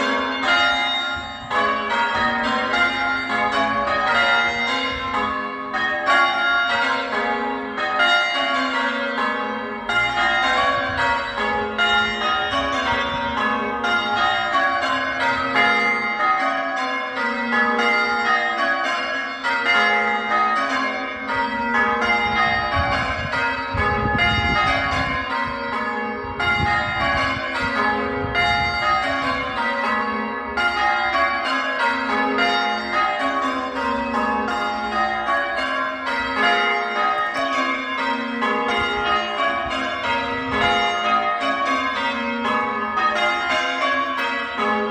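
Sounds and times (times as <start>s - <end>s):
church bells change ringing: 0.0s - 44.9s.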